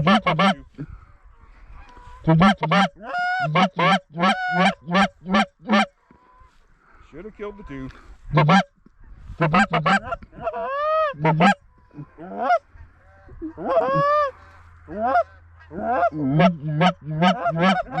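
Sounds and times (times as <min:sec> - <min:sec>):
goose honking: 0:00.0 - 0:00.6, 0:01.8 - 0:06.6, 0:07.4 - 0:18.0.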